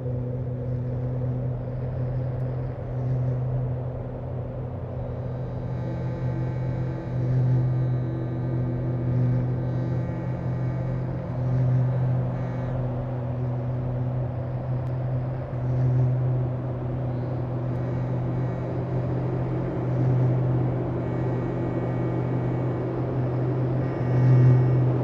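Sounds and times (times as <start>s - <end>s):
electronic noise music drone: 0.0s - 25.0s.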